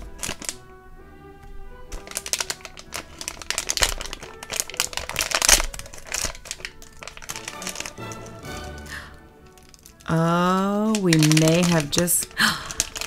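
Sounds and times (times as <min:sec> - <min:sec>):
foil bag crinkling and tearing: 0:00.0 - 0:00.6, 0:01.9 - 0:08.8, 0:09.4 - 0:13.0
background music: 0:00.0 - 0:13.0.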